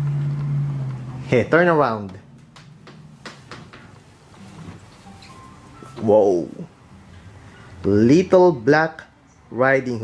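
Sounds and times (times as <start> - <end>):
faint room noise: 0.0 - 10.0.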